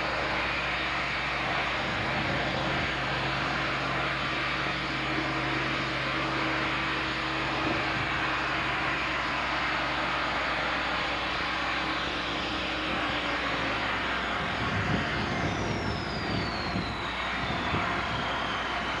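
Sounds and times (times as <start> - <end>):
thin high whine: 0.0 - 19.0.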